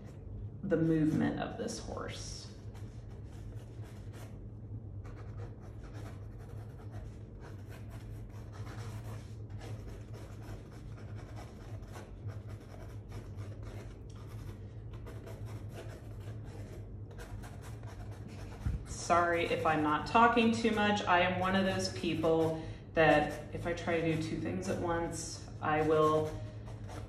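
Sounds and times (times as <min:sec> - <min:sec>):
low hum: 0:00.0 - 0:27.0
pen scratching on paper: 0:02.6 - 0:04.4, 0:05.0 - 0:27.0.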